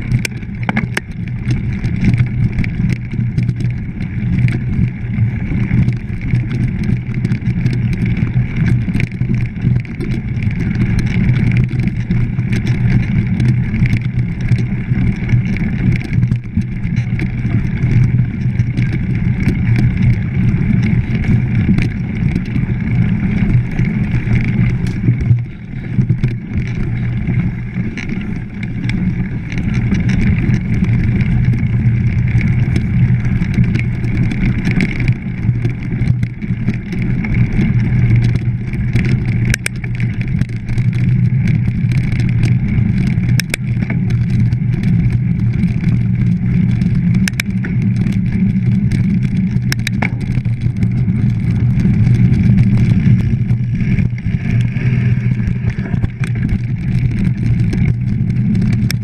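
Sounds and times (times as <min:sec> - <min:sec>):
bike clicks and knocks: 0:00.0 - 0:59.0
bike tyres rumbling on trail: 0:00.0 - 0:59.0
wind on microphone: 0:00.0 - 0:59.0.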